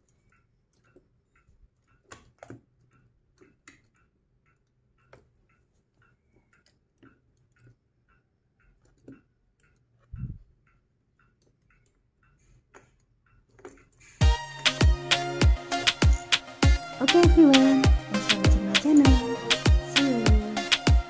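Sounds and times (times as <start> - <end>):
faint regular ticking: 0.0 - 21.0.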